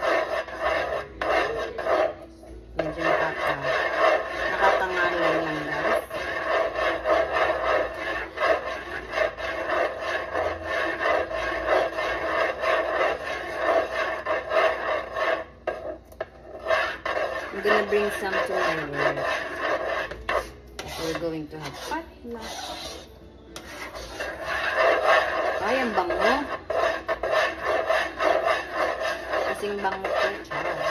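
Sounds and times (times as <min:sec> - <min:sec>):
spoon scraping a pan: 0:00.0 - 0:30.9.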